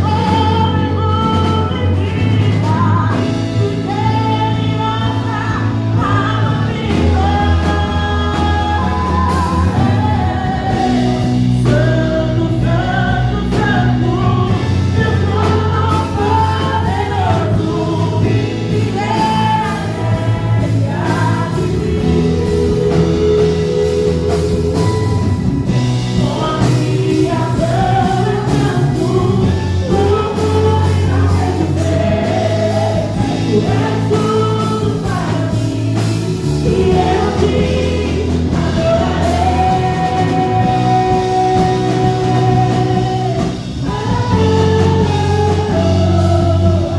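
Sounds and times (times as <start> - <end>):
band with beat and bass: 0.0 - 46.9
voices singing gospel: 0.0 - 46.9.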